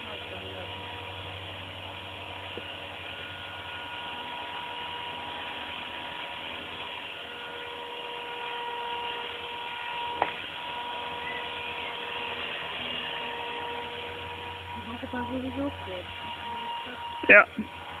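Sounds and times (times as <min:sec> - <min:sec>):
model helicopter whine: 0:00.0 - 0:18.0.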